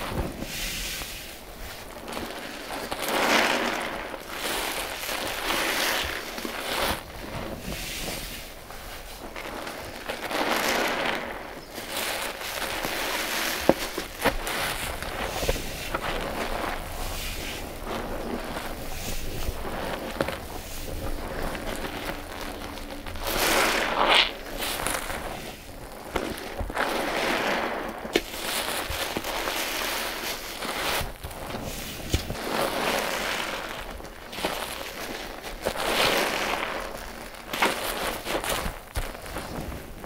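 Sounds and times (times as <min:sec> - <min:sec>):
wet sponge squeezing: 0:00.0 - 0:40.0.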